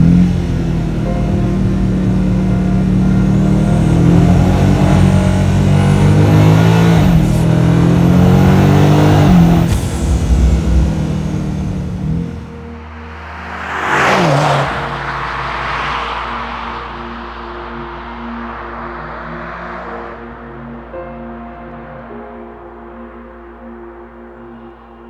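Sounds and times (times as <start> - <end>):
car engine accelerating hard: 0.0 - 21.3.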